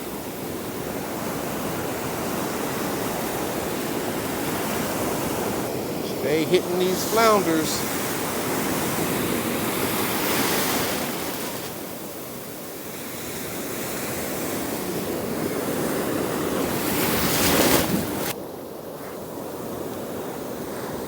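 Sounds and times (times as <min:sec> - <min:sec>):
ocean surf washing on beach: 0:00.0 - 0:21.0.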